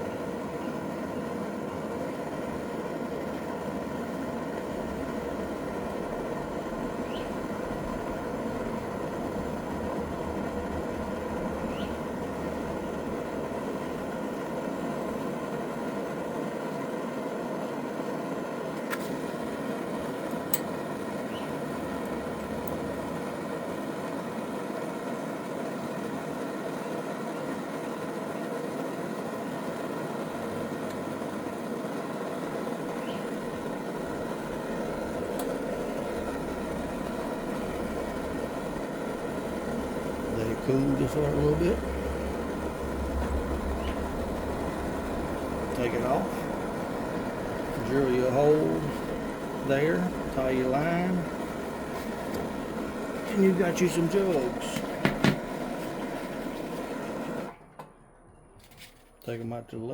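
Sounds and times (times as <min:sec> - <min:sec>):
rushing flame: 0:00.0 - 0:57.6.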